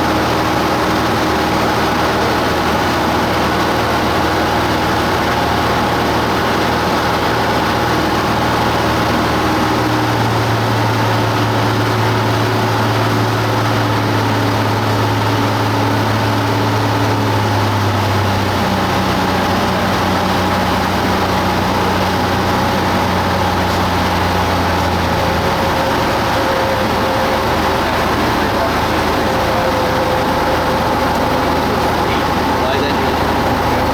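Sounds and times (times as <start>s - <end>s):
propeller plane engine droning: 0.0s - 33.9s.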